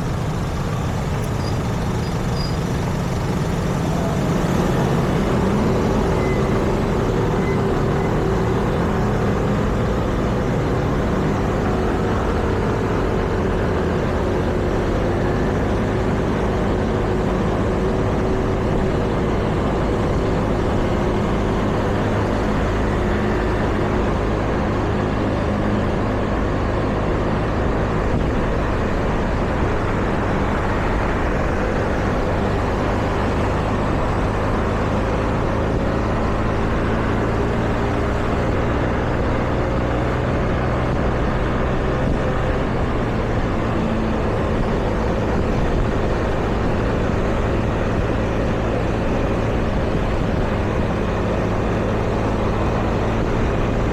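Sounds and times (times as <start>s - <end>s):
street traffic noise: 0.0s - 53.9s.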